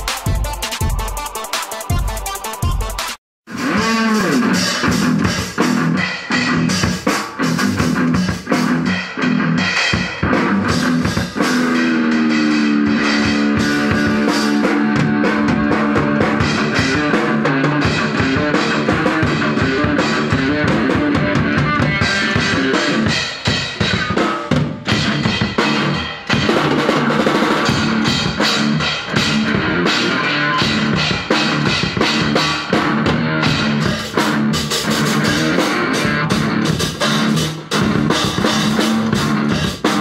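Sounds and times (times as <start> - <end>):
drum kit: 0.0 - 40.0
electric guitar: 3.5 - 40.0.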